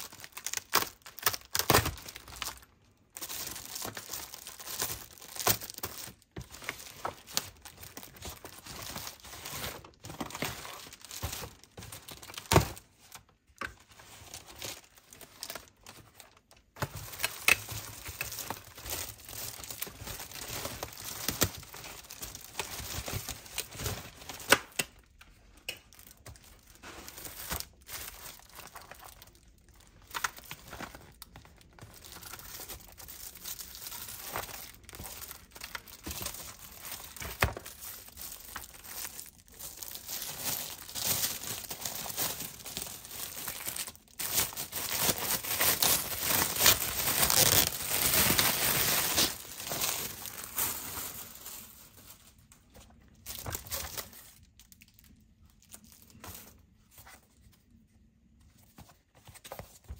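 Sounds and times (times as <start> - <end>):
packaging crinkling and tearing: 0.0 - 57.4.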